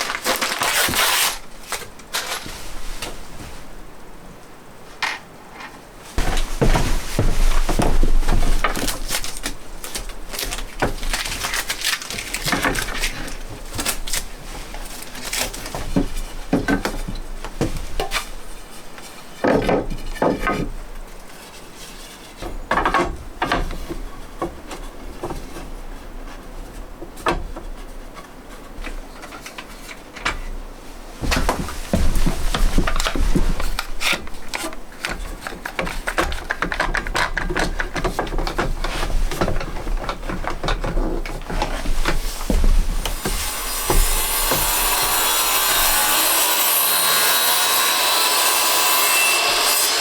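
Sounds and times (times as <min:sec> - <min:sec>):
wooden boards knocking and scraping: 0:05.0 - 0:49.9.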